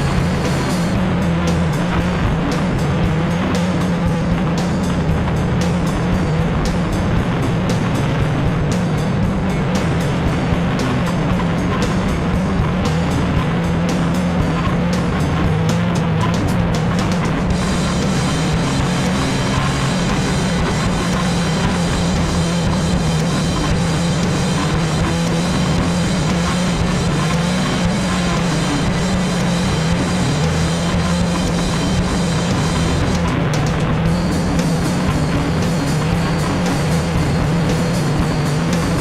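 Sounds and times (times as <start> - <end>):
heavy drum beat: 0.0 - 39.0
rock music: 0.0 - 39.0.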